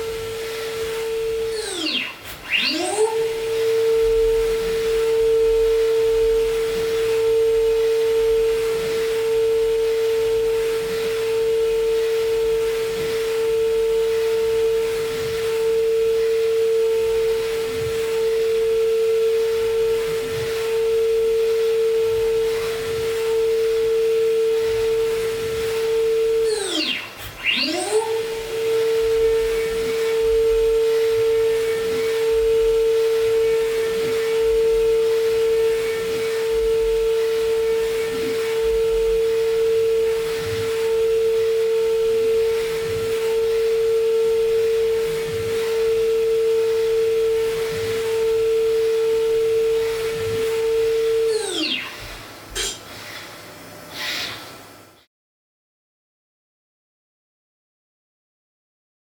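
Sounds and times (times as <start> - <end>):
machine spindle cutting whine: 0.0 - 53.9.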